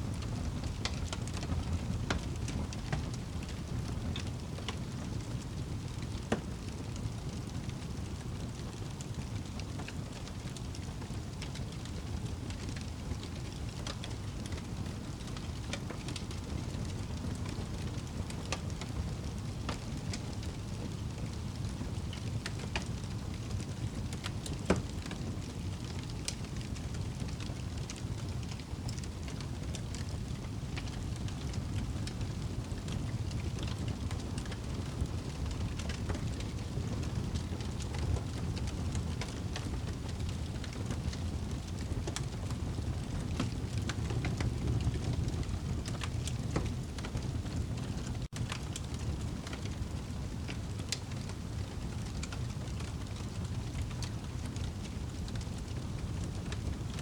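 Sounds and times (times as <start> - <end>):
fire crackling: 0.0 - 57.0
low rumble of flames: 0.0 - 57.0.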